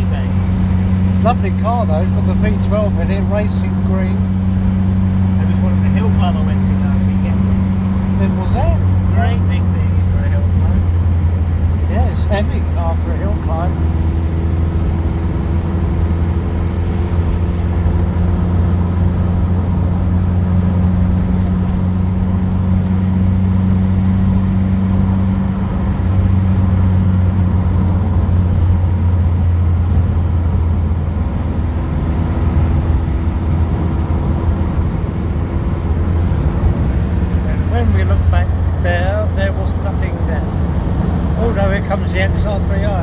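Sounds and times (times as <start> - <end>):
car engine drone: 0.0 - 43.0
road noise inside car: 0.0 - 43.0.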